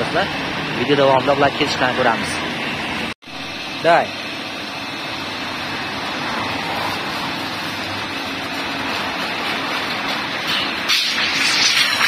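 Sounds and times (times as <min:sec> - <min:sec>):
slitting shear machine hum: 0:00.0 - 0:12.0.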